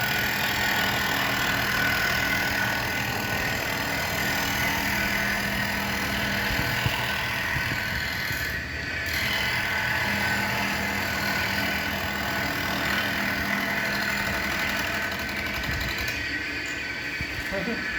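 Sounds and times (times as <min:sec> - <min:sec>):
blade grinding machine running: 0:00.0 - 0:17.9.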